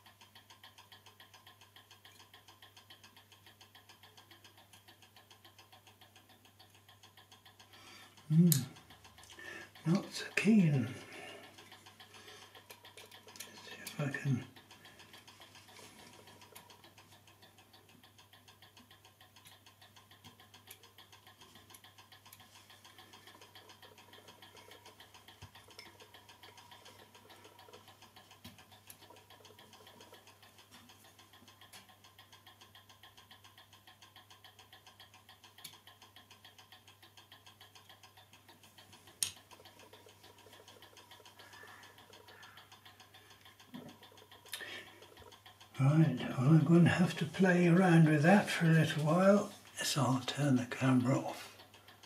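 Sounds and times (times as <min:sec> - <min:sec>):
clock ticking faintly: 0:00.0 - 0:52.0.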